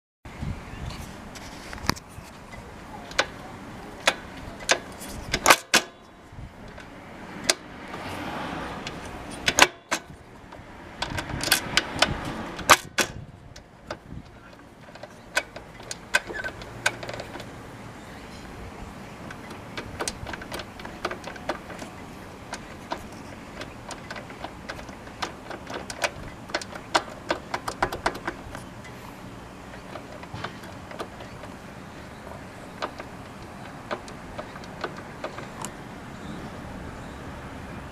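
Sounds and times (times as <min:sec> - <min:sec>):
metallic clicks and knocks of shaft: 0:01.8 - 0:36.2.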